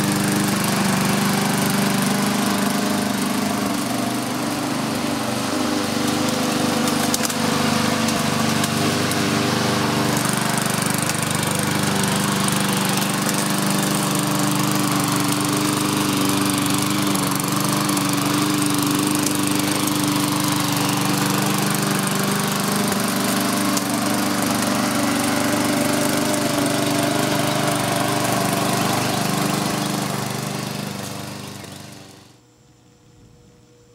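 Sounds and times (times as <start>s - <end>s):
lawn mower engine running: 0.0s - 32.4s.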